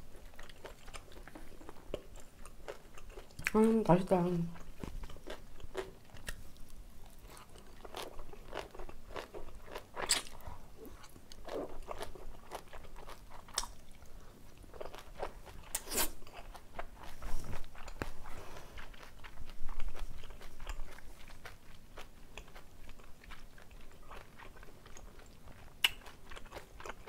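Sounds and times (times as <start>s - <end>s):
wet chewing of noodles: 0.0s - 3.7s, 4.6s - 27.0s.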